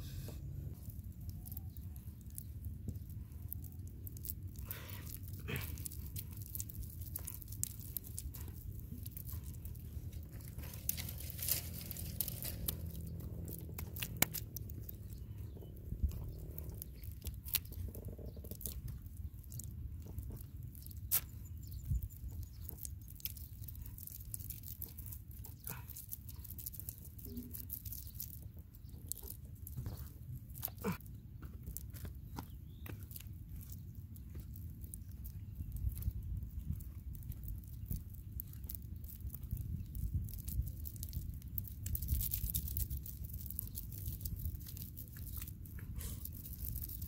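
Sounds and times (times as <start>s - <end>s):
low steady rumble: 0.0s - 47.0s
hands squelching wet mud: 0.6s - 47.0s.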